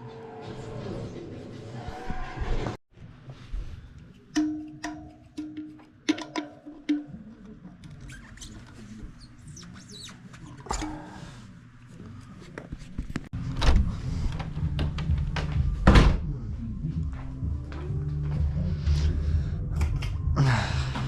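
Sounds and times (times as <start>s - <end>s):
faint background music: 3.3s - 21.0s.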